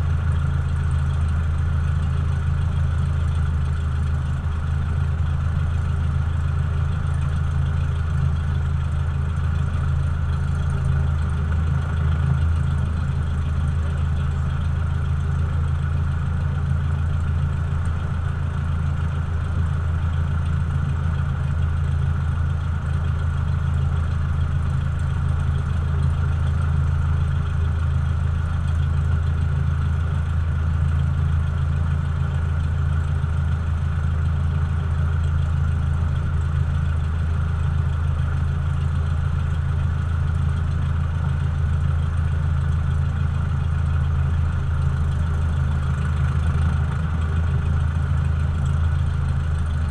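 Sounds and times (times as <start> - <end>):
propeller plane engine droning: 0.0 - 49.9.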